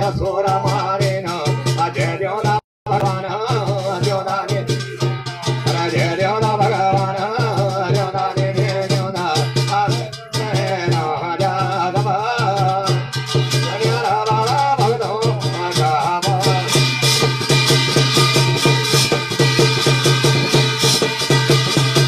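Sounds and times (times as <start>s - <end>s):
fast drum beat: 0.0s - 22.0s
rattling percussion: 0.0s - 22.0s.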